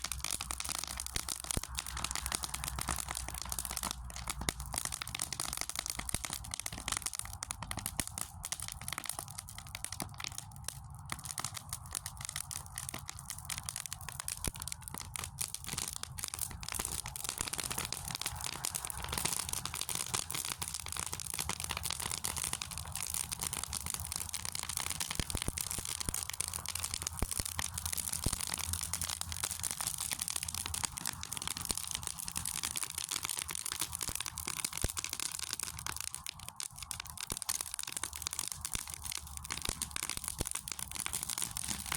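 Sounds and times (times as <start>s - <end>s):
fire crackling: 0.0s - 41.9s.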